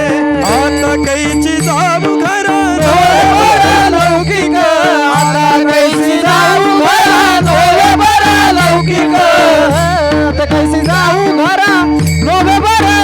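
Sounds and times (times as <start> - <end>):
person singing wavering melody: 0.0 - 13.0
steady percussion beat: 0.0 - 13.0.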